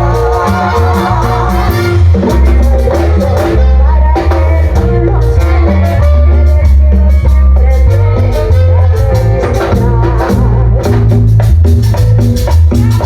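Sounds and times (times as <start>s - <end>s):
person singing: 0.0s - 11.2s
heavy bass line: 0.0s - 13.0s
latin dance band playing: 0.0s - 13.0s.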